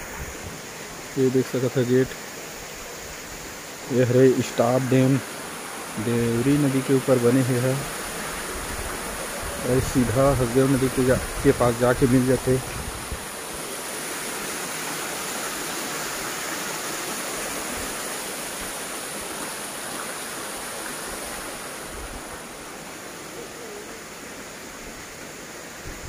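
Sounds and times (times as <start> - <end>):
water rushing over spillway: 0.0 - 26.0.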